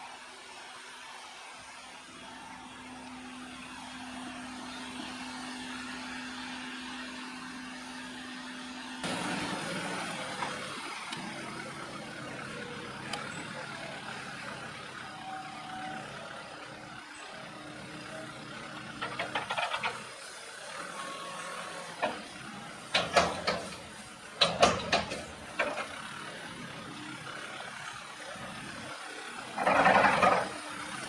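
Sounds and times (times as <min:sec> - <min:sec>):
excavator engine humming: 0:00.0 - 0:31.0
telehandler engine working: 0:00.0 - 0:31.0.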